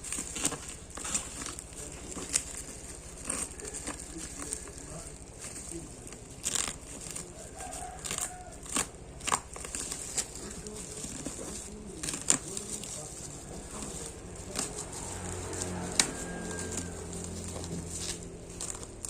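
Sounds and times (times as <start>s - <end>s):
packaging crinkling and rustling: 0.0s - 19.0s
sharp crackles: 0.0s - 19.0s.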